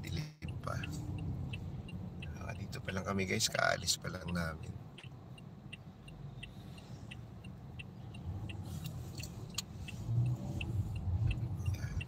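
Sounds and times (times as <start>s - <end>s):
car road and engine rumble: 0.0s - 12.0s
faint light ticking: 0.1s - 12.0s.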